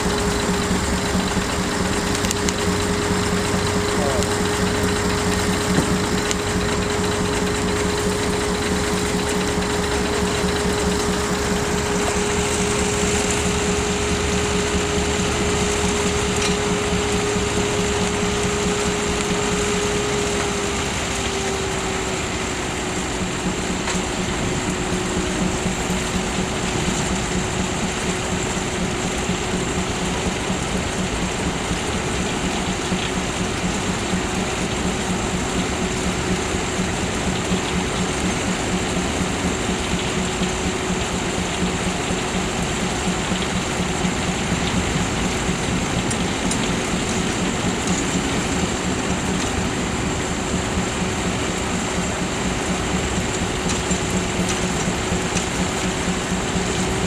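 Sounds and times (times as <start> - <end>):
sawmill whining: 0.0 - 57.0
steam engine pulsing: 0.0 - 57.0.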